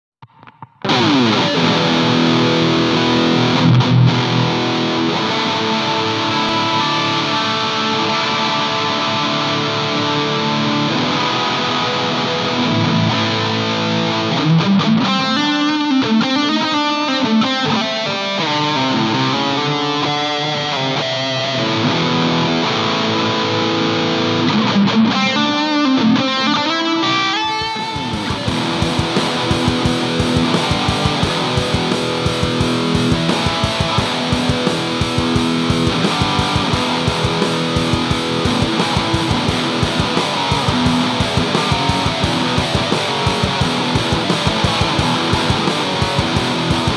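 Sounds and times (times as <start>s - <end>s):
distorted electric guitar: 0.2s - 46.9s.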